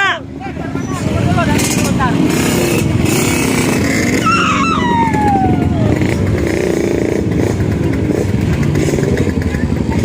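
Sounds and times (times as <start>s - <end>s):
motorcycle engines running: 0.0s - 10.0s.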